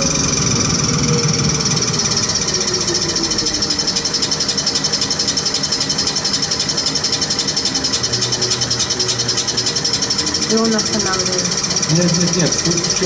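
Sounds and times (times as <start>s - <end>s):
deep running sound of test bench: 0.0s - 13.0s.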